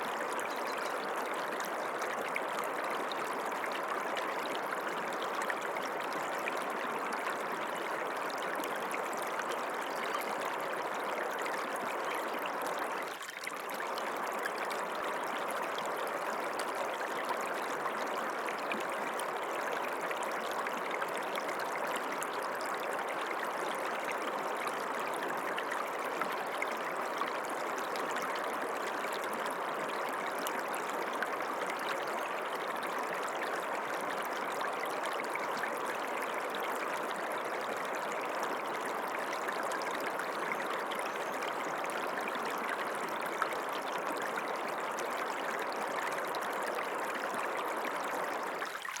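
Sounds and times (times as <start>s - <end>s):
stream water rushing and trickling: 0.0s - 49.0s.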